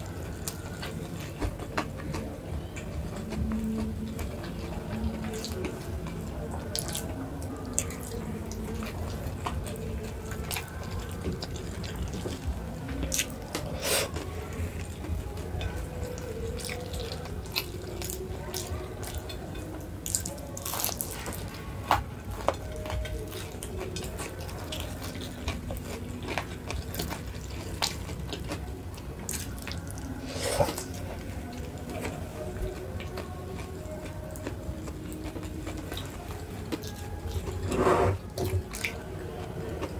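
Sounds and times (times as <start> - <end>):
wet chewing with mouth clicks: 0.0 - 39.9.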